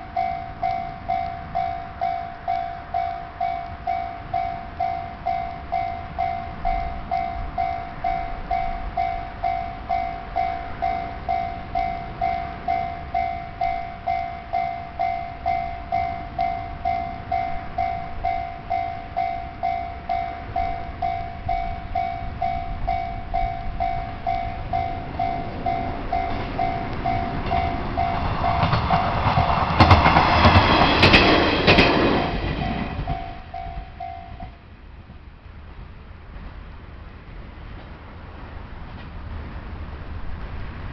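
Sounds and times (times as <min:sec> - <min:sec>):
level crossing warning bell: 0:00.0 - 0:34.8
wheels clicking over rail joints: 0:00.0 - 0:35.2
train passing: 0:00.0 - 0:40.9.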